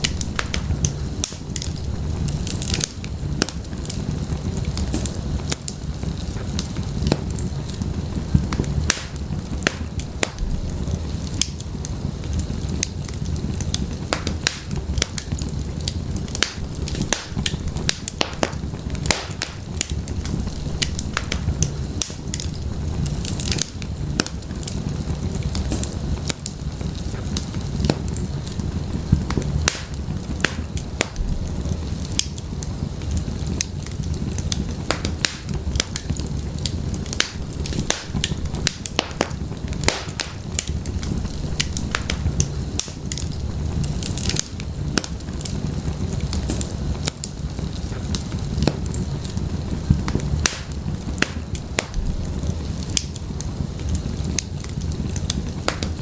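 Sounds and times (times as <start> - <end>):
firewood crackling and popping: 0.0 - 56.0
flames rumbling: 0.0 - 56.0.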